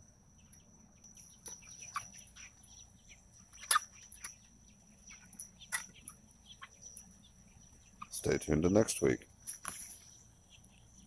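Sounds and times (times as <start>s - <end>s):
chickens chirping and calling: 0.0s - 11.0s.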